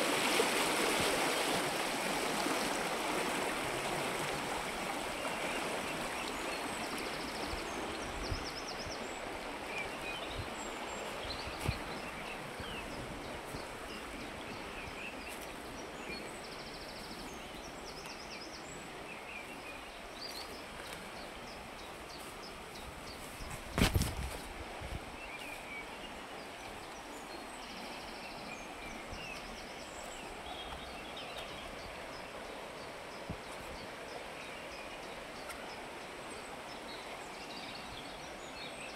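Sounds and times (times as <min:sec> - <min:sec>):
stream rushing through rocks: 0:00.0 - 0:38.9
small birds calling and trilling: 0:05.1 - 0:24.4, 0:25.1 - 0:38.9.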